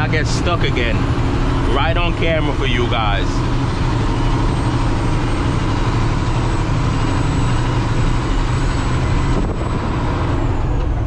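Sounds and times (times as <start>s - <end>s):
diesel truck engine under load: 0.0s - 11.0s
road and tyre noise: 0.0s - 11.0s.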